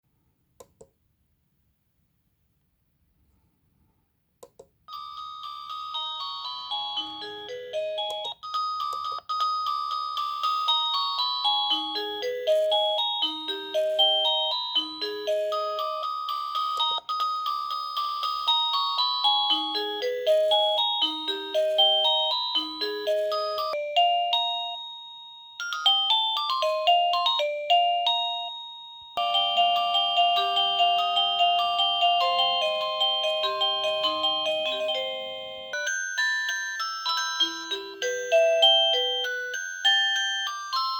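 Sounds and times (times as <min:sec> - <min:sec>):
phone ringtone melody: 0:04.9 - 0:40.9.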